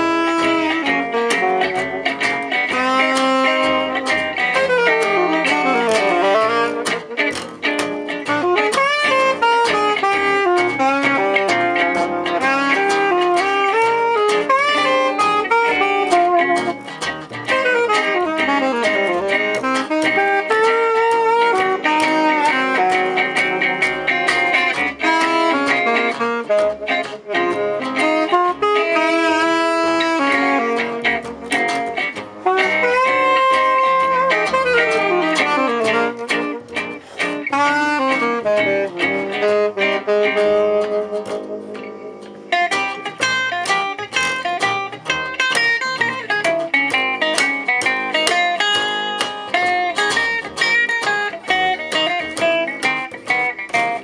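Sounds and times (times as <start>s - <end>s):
jazz band melody line: 0.0s - 54.0s
rhythmic guitar chords: 0.0s - 54.0s.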